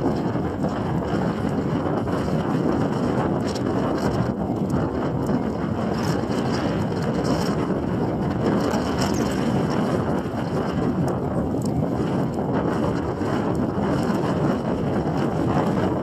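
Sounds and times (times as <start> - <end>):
faint crackles: 0.0 - 16.0
wind buffeting microphone: 0.0 - 16.0.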